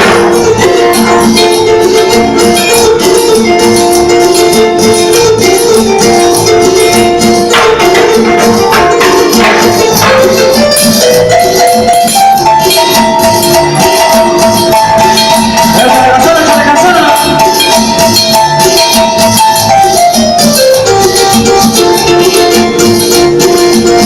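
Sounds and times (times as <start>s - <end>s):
electronic keyboard latin dance tune: 0.0s - 24.0s.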